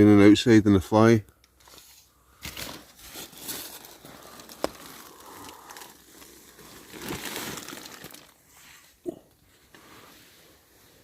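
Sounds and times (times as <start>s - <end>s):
tent fabric rustling: 1.6s - 11.0s.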